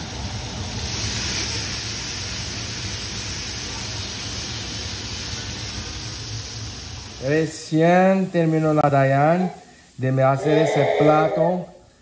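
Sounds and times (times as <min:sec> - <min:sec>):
fish sizzling on a griddle: 0:00.0 - 0:10.5
fries bubbling in oil: 0:00.0 - 0:10.8.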